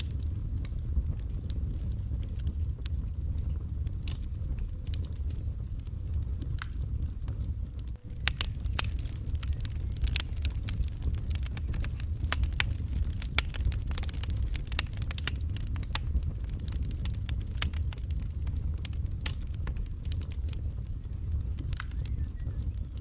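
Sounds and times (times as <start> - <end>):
low steady rumble: 0.0 - 23.0
wood fire crackling and popping: 0.0 - 23.0.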